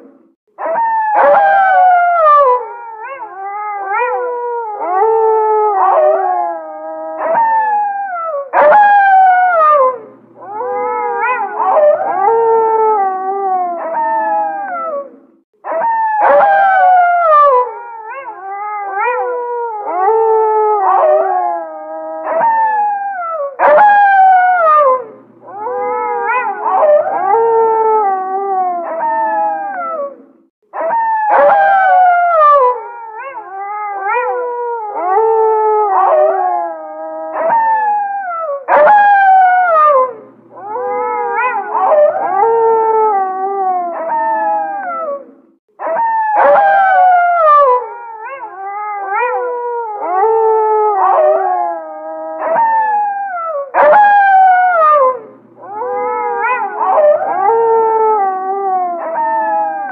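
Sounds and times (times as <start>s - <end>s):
wolves howling in chorus: 0.0s - 30.2s, 30.8s - 59.9s.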